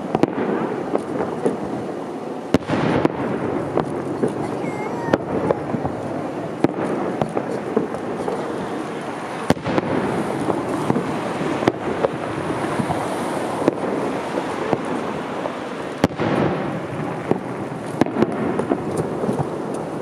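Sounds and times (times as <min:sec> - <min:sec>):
firework crackles: 0:00.0 - 0:20.0
firework shells bursting: 0:02.5 - 0:20.0.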